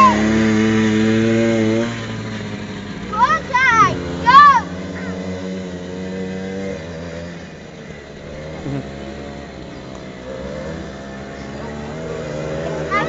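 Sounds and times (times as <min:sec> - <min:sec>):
quad bike engines revving: 0:00.0 - 0:13.0.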